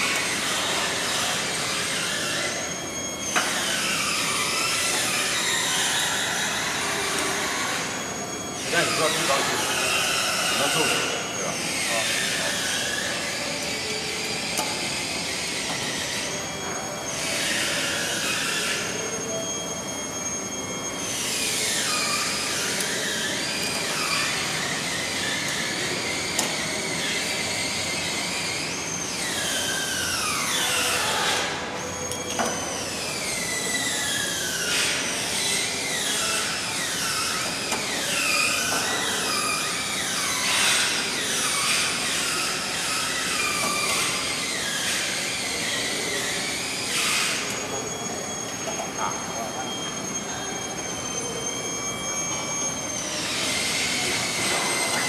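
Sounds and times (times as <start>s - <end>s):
high metallic squeals gliding down: 0.0s - 55.0s.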